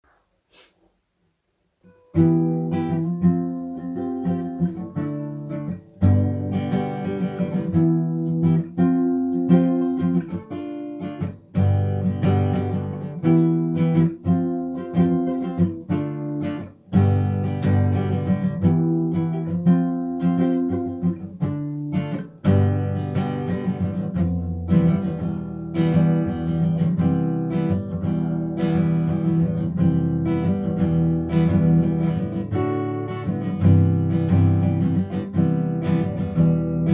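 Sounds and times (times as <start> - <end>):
acoustic guitar music: 1.8 - 36.9.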